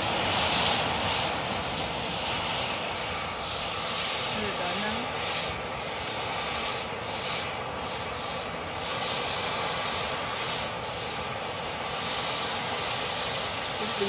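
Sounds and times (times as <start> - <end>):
jet engine turbine whine: 0.0 - 14.0.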